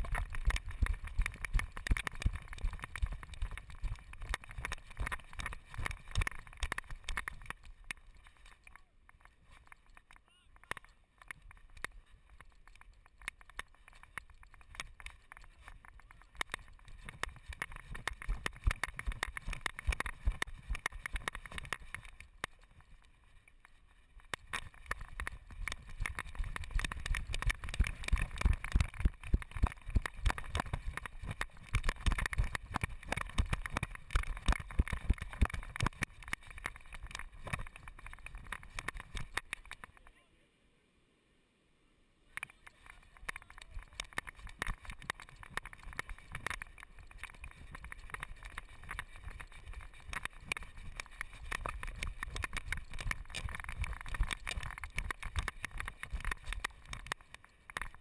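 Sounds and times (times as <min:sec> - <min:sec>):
camera knocking and rattling: 0:00.0 - 0:40.0, 0:42.4 - 0:58.0.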